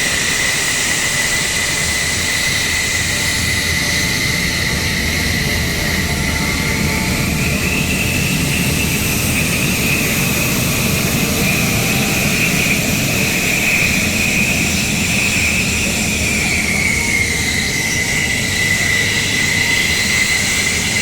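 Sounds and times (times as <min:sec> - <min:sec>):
jet engine whine and rumble: 0:00.0 - 0:21.0.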